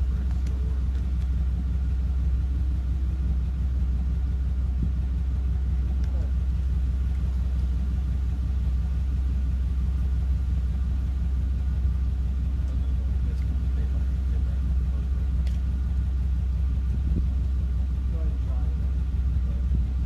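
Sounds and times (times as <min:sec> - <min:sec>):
pickup truck engine idling: 0:00.0 - 0:20.0.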